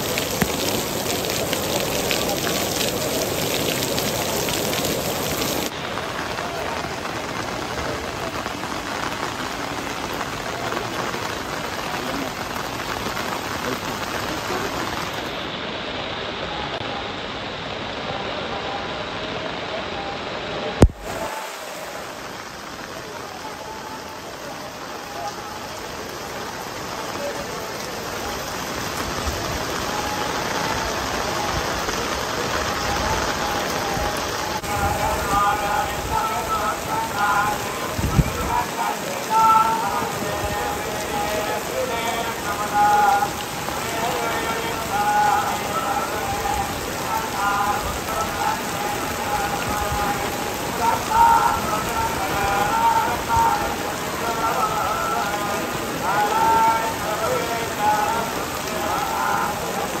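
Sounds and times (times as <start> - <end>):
heavy rain on stone paving: 0.0 - 60.0.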